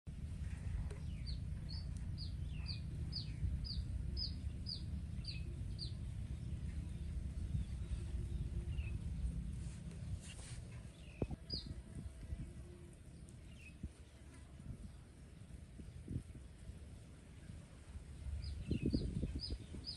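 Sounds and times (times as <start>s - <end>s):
low rumble: 0.1s - 19.9s.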